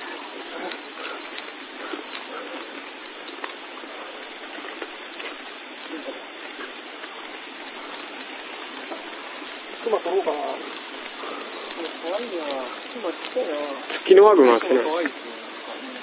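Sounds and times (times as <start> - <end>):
even hiss: 0.0 - 16.0
high-pitched whine: 0.0 - 16.0.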